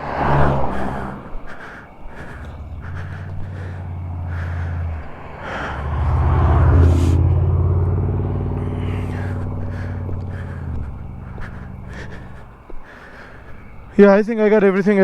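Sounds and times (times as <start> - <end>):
motorcycle engine idling: 0.8 - 14.0.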